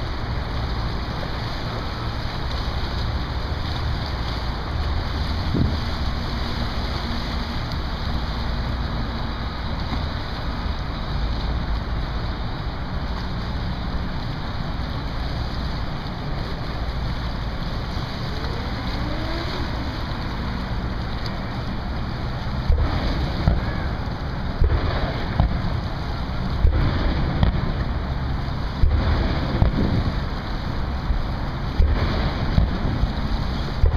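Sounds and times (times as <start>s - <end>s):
boat rumble: 0.0s - 33.9s
water around boat: 0.0s - 33.9s
wind buffeting microphone: 0.0s - 33.9s.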